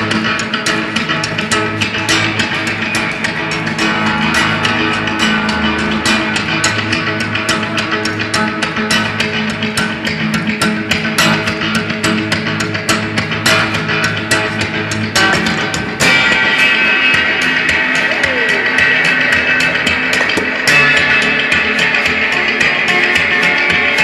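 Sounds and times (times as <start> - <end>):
acoustic guitar picking: 0.0 - 24.0.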